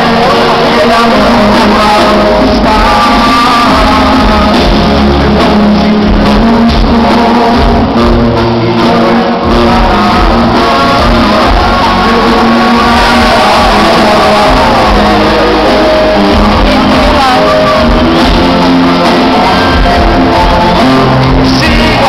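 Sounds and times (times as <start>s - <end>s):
live band music with singer: 0.0s - 22.0s.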